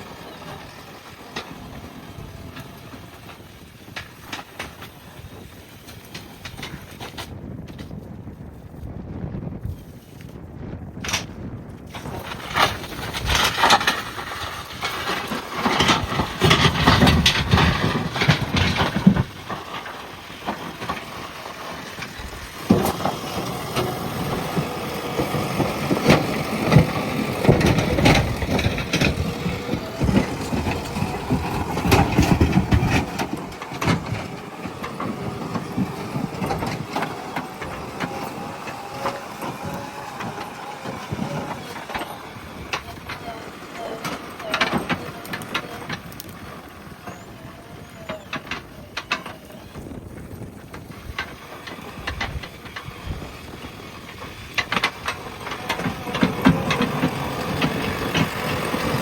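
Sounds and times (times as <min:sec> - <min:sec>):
bucket crunching through soil: 0:00.0 - 0:59.0
diesel engine working under load: 0:00.0 - 0:59.0.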